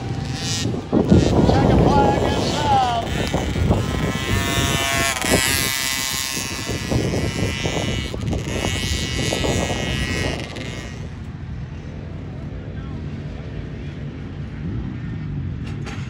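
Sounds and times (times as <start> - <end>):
motocross bike engines buzzing: 0.0 - 16.0.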